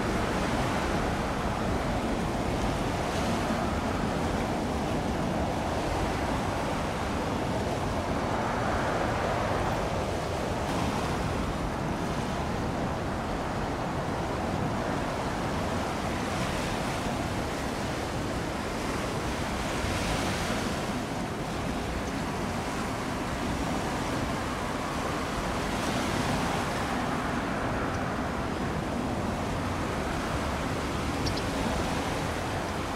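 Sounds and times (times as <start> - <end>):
waves: 0.0 - 32.9.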